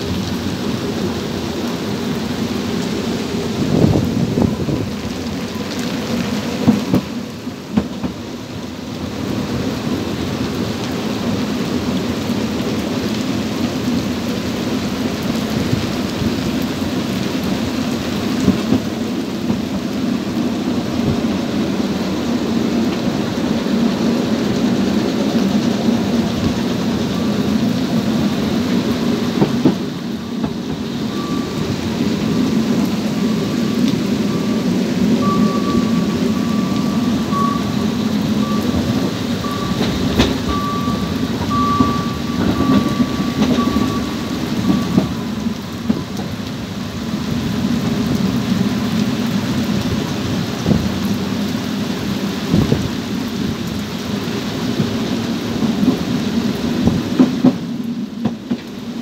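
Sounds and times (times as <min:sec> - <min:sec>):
heavy rain hissing: 0:00.0 - 0:59.0
train rumbling: 0:00.0 - 0:59.0.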